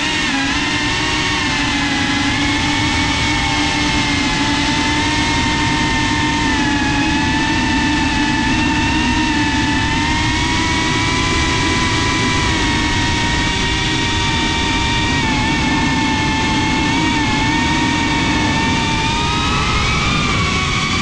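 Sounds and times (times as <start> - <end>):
constant rushing noise: 0.0 - 21.0
drone motors whining: 0.0 - 21.0.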